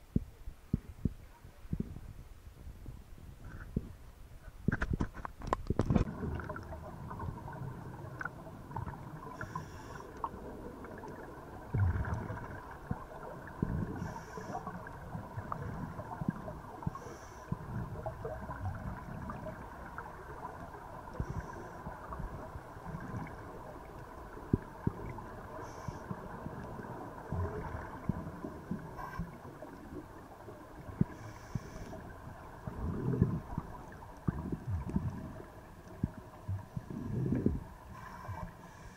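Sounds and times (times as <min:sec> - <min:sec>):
muffled underwater rumble: 0:00.0 - 0:38.9
regulator bubbles hissing: 0:05.9 - 0:38.9.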